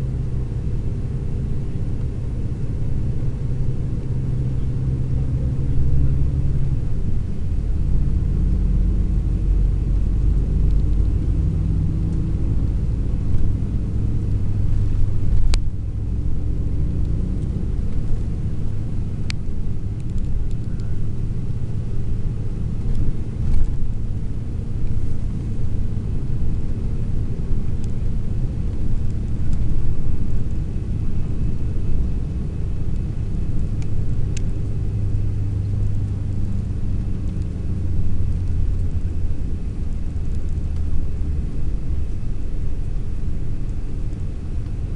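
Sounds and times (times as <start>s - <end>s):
engine and road rumble: 0.0s - 44.9s.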